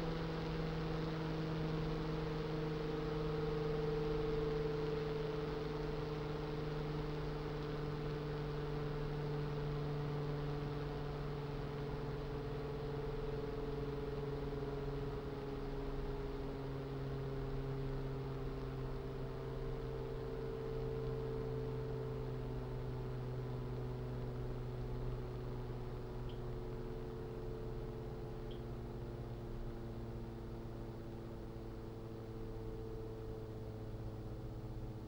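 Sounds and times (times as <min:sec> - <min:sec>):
computer fan whirring: 0:00.0 - 0:35.0.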